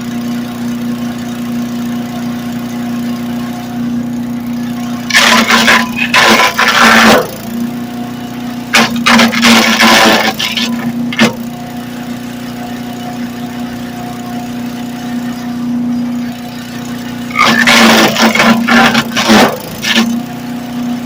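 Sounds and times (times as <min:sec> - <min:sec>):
small gas engine running: 0:00.0 - 0:21.0.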